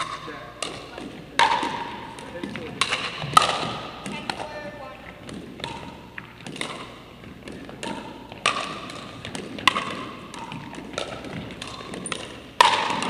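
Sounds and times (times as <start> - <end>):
ball bouncing on hardwood floor: 0.0 - 13.0
paddles striking plastic ball: 0.0 - 13.0.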